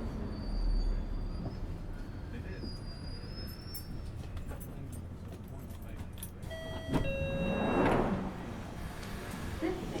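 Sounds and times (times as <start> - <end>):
train carriage rumbling: 0.0 - 10.0.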